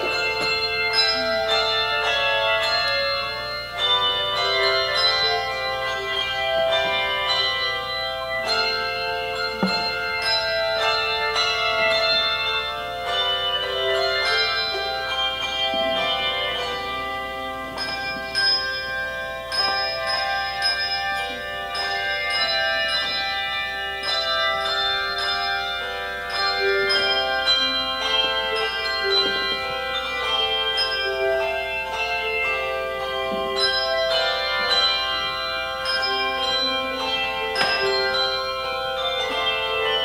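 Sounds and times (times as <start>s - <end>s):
handbell choir playing a melody: 0.0s - 40.0s.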